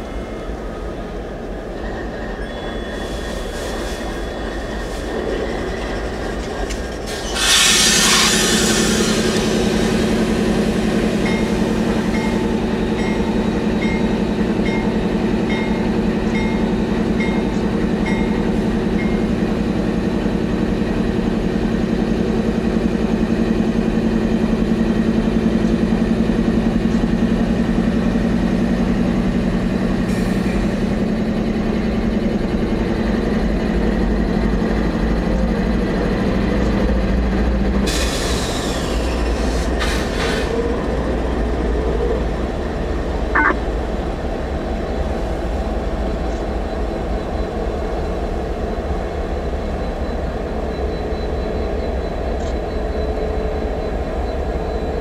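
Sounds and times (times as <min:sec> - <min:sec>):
loud rush of passing train: 0:00.0 - 0:50.8
diesel locomotive engine drone: 0:00.0 - 0:55.0.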